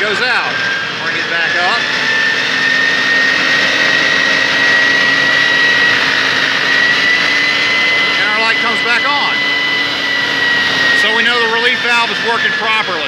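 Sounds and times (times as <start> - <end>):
fire engine motor and pump: 0.0 - 13.0
high pump whine: 0.0 - 13.0.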